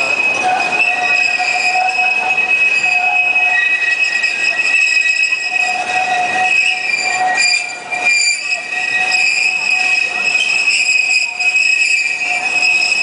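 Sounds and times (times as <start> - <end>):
train rumbling: 0.0 - 13.0
train wheels squealing: 0.0 - 13.0.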